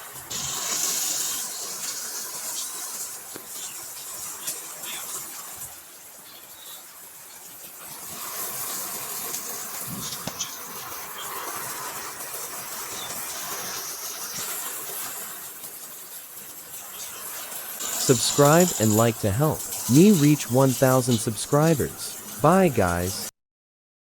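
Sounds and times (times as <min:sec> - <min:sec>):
heavy rain falling: 0:00.1 - 0:23.3.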